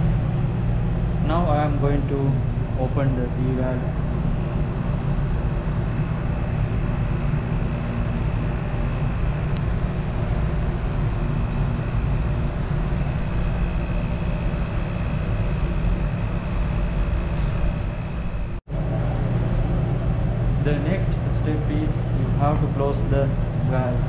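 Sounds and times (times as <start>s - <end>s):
vacuum pump humming: 0.0s - 24.0s.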